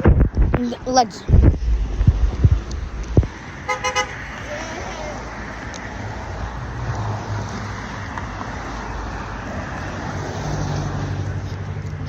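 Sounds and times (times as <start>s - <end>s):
road traffic going by: 0.6s - 12.0s
vehicle engine passing close: 1.3s - 12.0s.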